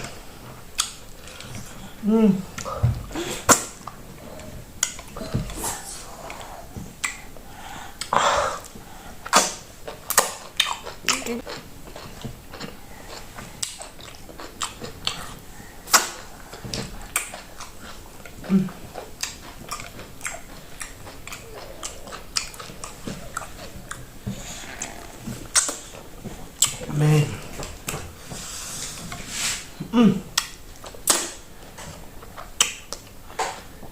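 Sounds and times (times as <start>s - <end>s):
person chewing and smacking: 0.0s - 28.3s, 30.3s - 33.9s.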